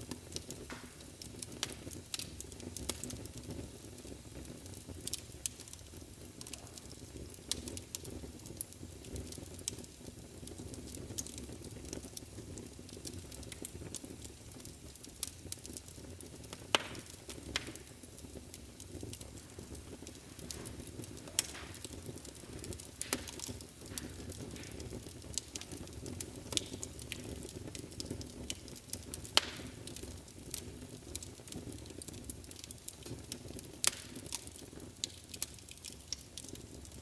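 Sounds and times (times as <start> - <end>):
fire crackling and popping: 0.0 - 37.0
fire rumbling: 0.0 - 37.0.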